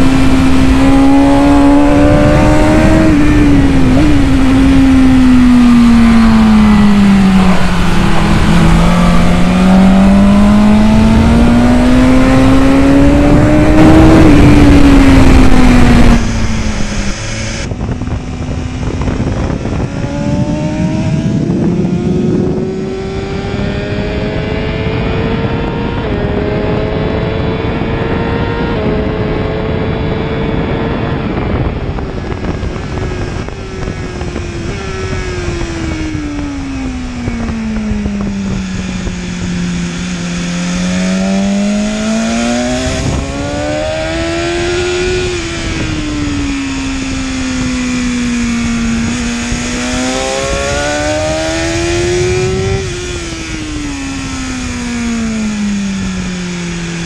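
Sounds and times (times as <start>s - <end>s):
motorcycle engine at full throttle: 0.0s - 57.0s
wind noise: 0.0s - 57.0s.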